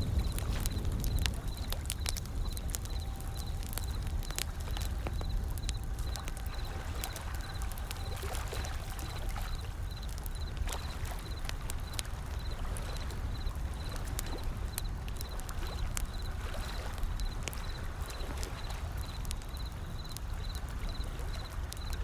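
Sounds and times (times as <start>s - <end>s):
ocean waves: 0.0s - 19.4s
wood fire crackling and popping: 0.0s - 22.0s.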